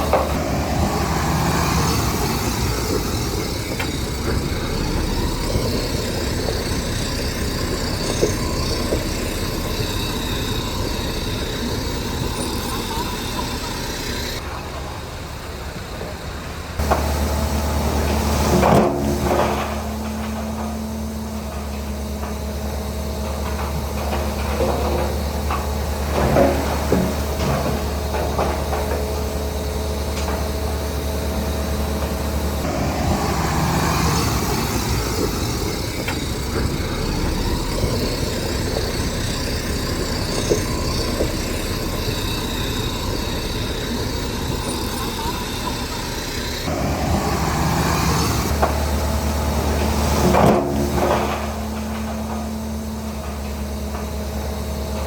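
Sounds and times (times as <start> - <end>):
diesel engine of heavy machine: 0.0 - 55.0.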